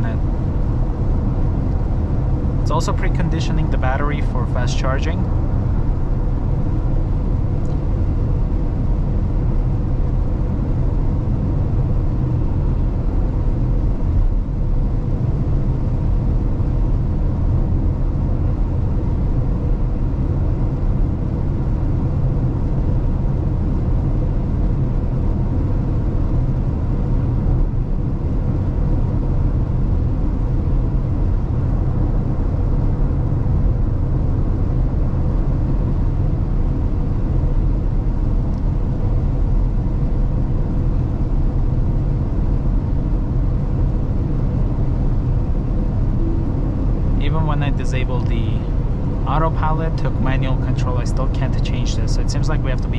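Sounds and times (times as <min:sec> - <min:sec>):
faint steady hum: 0:00.0 - 0:52.9
road and tyre noise rumble: 0:00.0 - 0:52.9.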